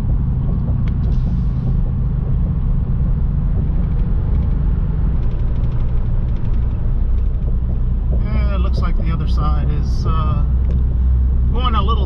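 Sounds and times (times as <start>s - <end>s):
truck cab road rumble: 0.0s - 12.0s.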